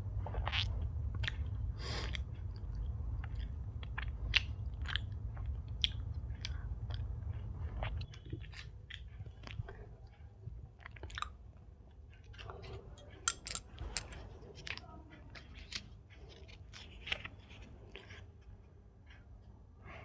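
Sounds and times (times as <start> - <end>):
person chewing close up: 0.1 - 18.3.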